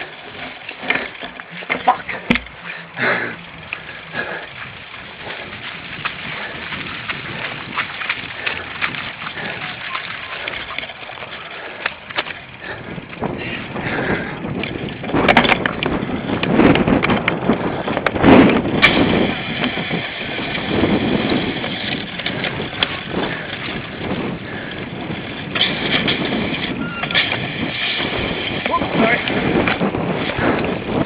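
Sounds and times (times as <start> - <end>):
bike rattling over rough ground: 0.0 - 31.0
tyre noise: 0.0 - 31.0.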